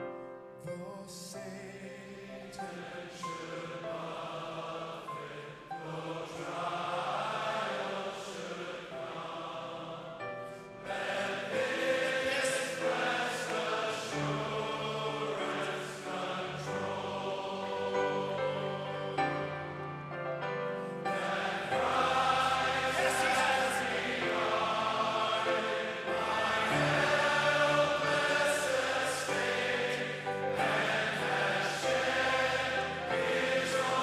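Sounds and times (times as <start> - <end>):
choir singing sustained chords: 1.5 - 34.0.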